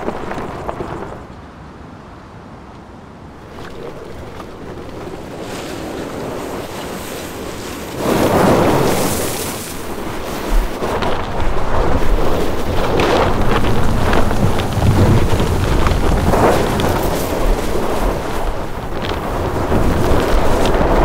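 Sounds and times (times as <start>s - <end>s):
tyres spinning on gravel: 0.0s - 1.3s, 3.4s - 21.0s.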